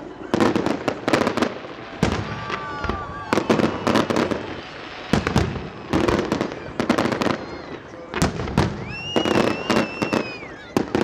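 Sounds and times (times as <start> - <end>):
fireworks bursting: 0.0 - 11.0
fireworks crackling: 0.0 - 11.0.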